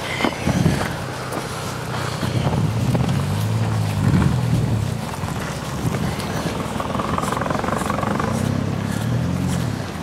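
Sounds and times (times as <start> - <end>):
cars passing: 0.0 - 10.0
low engine hum: 0.0 - 10.0
tyre noise: 0.0 - 10.0.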